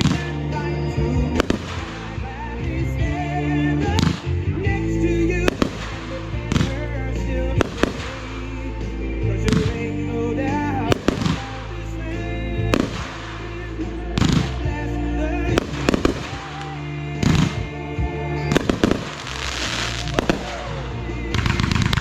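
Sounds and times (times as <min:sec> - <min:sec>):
fireworks crackle: 0:00.0 - 0:02.5, 0:05.2 - 0:17.8, 0:18.5 - 0:22.0
background music: 0:00.0 - 0:22.0
fireworks banging: 0:00.0 - 0:22.0.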